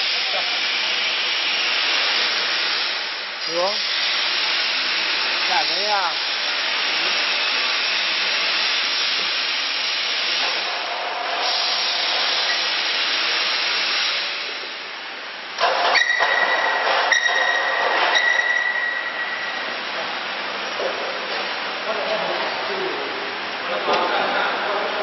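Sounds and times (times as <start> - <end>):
block-making machine hissing: 0.0 - 25.0.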